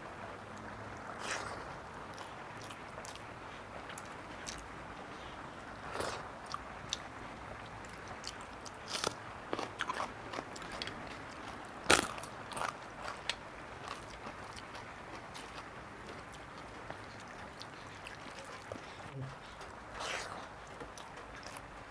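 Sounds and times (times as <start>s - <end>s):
chewing with crisp crunches: 0.5s - 21.9s.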